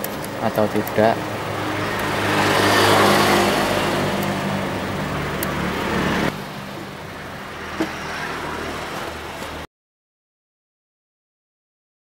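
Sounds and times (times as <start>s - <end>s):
low engine hum: 0.0s - 9.7s.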